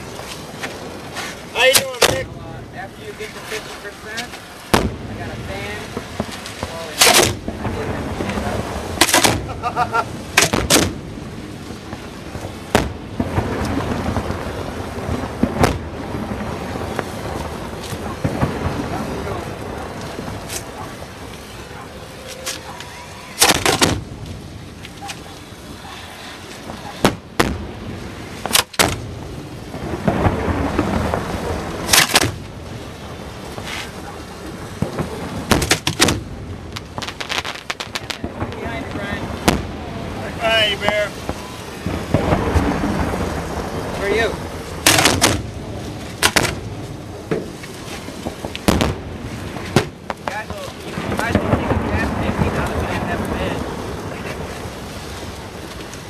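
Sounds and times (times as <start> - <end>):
rumble and crackle of fireworks: 0.0 - 56.0
sharp firework explosions: 0.0 - 56.0.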